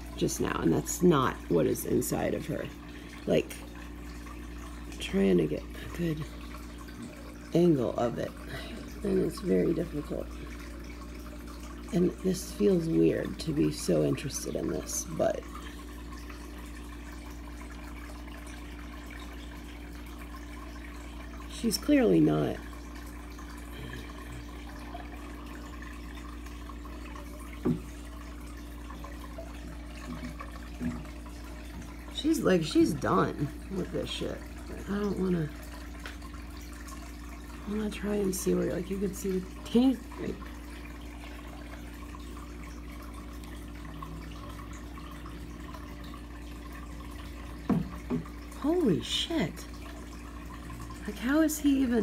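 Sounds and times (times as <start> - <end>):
water filter humming: 0.0 - 52.0
water trickling: 0.0 - 52.0.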